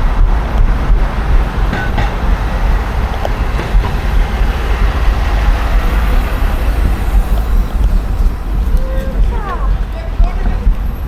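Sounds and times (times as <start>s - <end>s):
road and traffic noise: 0.0s - 11.0s
wind buffeting microphone: 0.0s - 11.0s.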